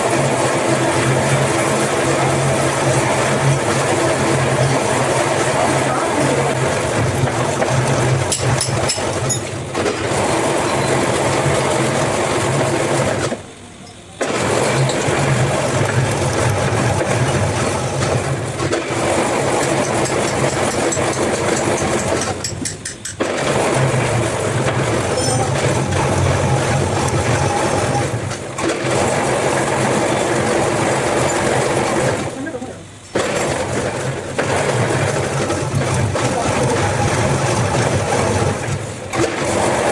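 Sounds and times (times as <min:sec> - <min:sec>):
workshop machine humming: 0:00.0 - 0:39.9.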